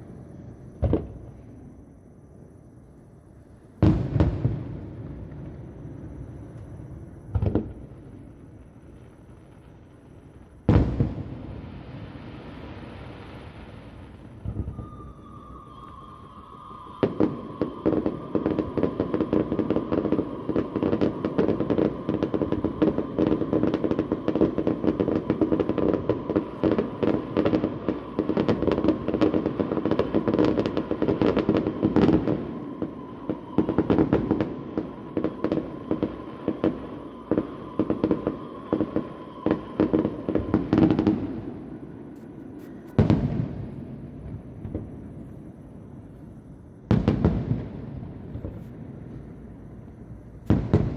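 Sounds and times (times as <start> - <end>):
distant fireworks bangs and crackles: 0.0 - 2.6, 3.6 - 50.9.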